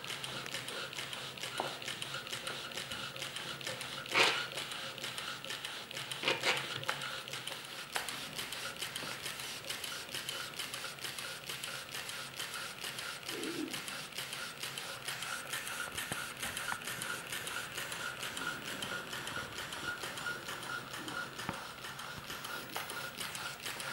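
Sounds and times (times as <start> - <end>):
model steam engine ticking: 0.0 - 23.9.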